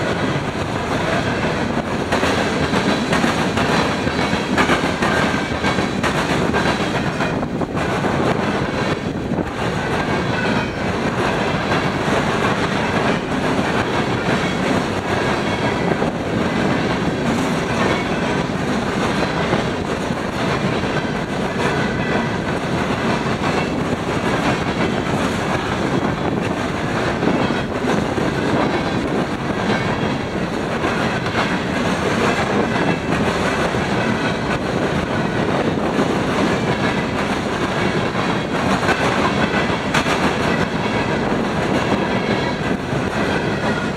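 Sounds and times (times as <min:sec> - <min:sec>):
freight train wheels clacking on rails: 0:00.0 - 0:43.9.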